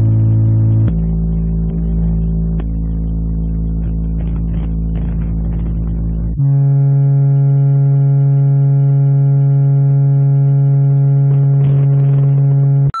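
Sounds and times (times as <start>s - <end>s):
low droning tone: 0.0s - 12.9s.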